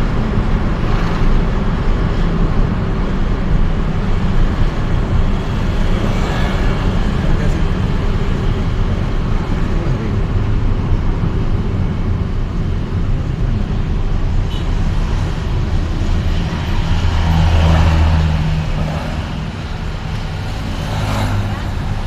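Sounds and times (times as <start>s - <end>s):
engine hum: 0.0s - 22.0s
road traffic rumble: 0.0s - 22.0s.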